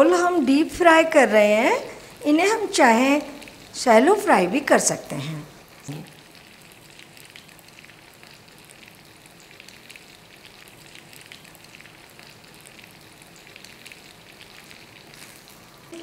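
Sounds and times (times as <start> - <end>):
deep-frying sizzle with pops: 0.0 - 16.0.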